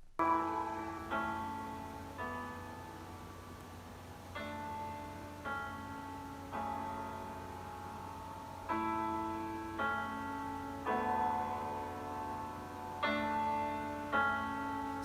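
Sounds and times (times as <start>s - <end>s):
piano playing slow chords: 0.2s - 15.0s.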